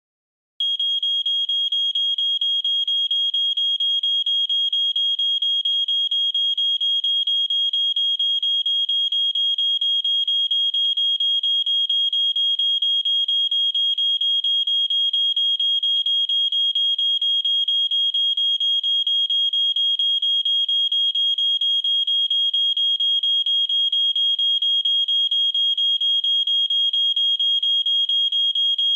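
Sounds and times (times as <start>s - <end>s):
smoke alarm beeping: 0.6s - 28.9s.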